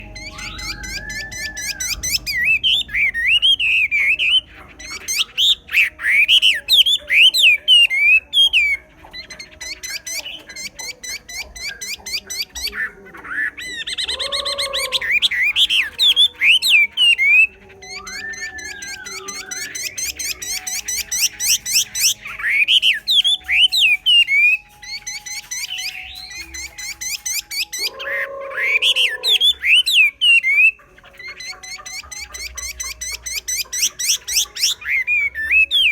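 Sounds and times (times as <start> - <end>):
bird singing: 0.0 - 35.9.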